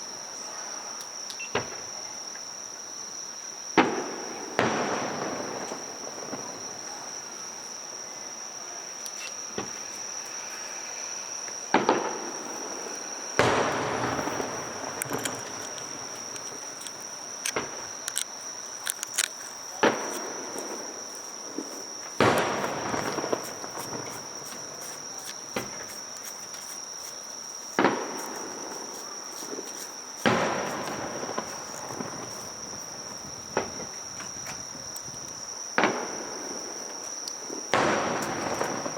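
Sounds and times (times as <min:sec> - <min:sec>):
fireworks bursting: 0:03.8 - 0:07.4, 0:09.5 - 0:38.9
fireworks crackling: 0:03.8 - 0:07.6, 0:09.5 - 0:38.9.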